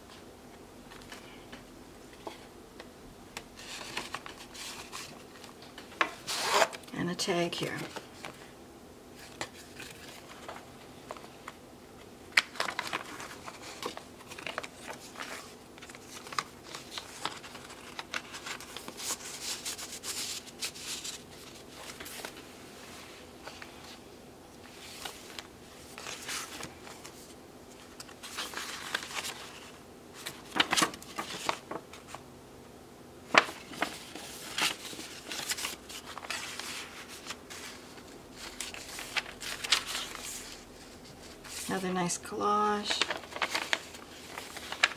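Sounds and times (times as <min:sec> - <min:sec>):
paper rustling and crinkling: 0:03.6 - 0:08.5, 0:09.2 - 0:11.6, 0:12.3 - 0:24.0, 0:24.6 - 0:32.2, 0:33.3 - 0:44.9.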